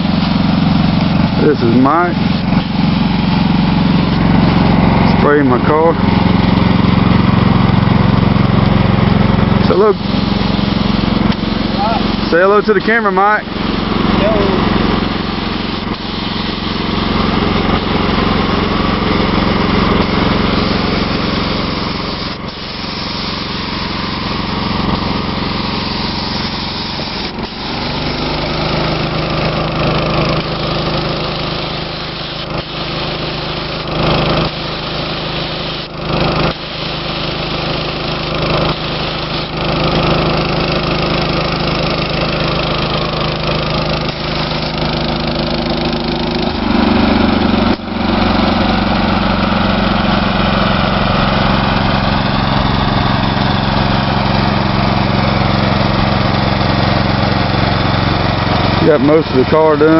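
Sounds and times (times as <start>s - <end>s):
air compressor running: 0.0s - 59.9s
paint spray gun hissing: 0.0s - 59.9s.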